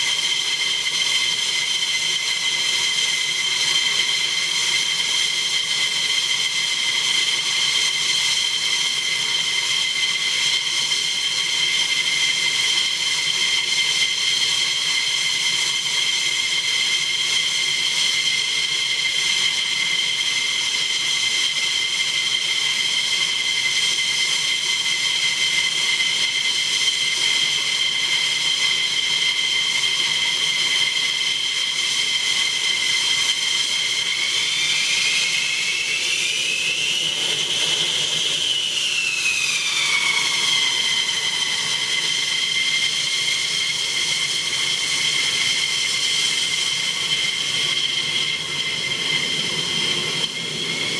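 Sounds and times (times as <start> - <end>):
jet engine spooling up: 0.0 - 50.9
jet engines idling whine: 0.0 - 50.9.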